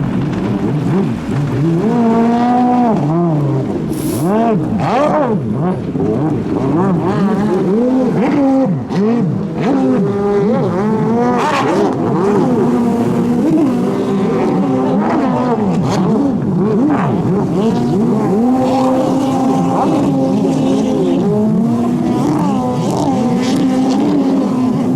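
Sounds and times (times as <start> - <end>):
jet ski engines racing: 0.0 - 24.9.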